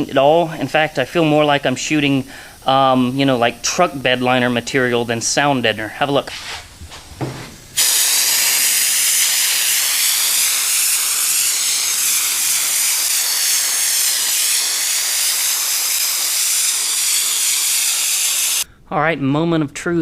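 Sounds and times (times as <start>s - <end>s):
spray gun air hiss: 0.4s - 18.7s.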